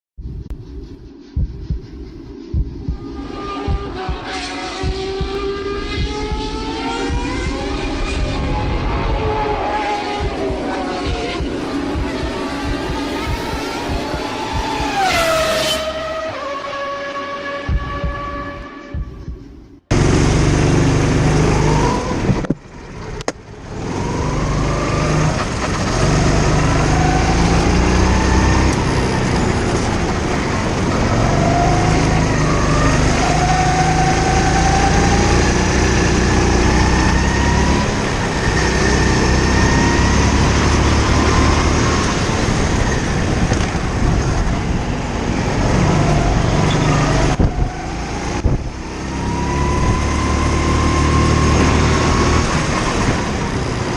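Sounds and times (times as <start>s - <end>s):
kart engine revving: 3.0s - 19.0s, 19.9s - 53.9s.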